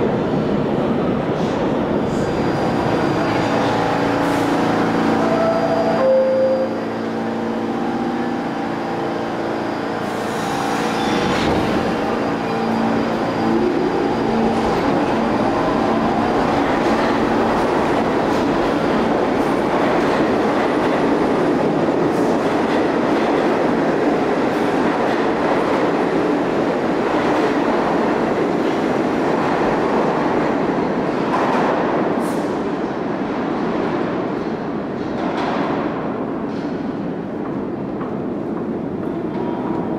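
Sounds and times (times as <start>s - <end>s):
subway train motors whining: 0.0s - 39.9s
train wheels rumbling and clattering: 6.8s - 39.9s.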